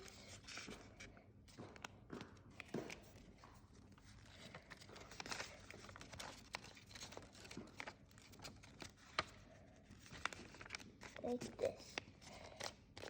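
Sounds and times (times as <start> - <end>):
paper rustling and folding: 0.0 - 13.0.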